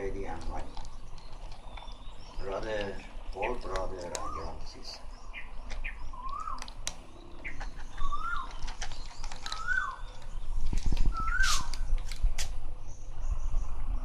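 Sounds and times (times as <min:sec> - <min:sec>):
cats crunching dry kibble: 0:00.0 - 0:04.8, 0:05.6 - 0:12.6
bird call rising and falling: 0:01.2 - 0:13.7.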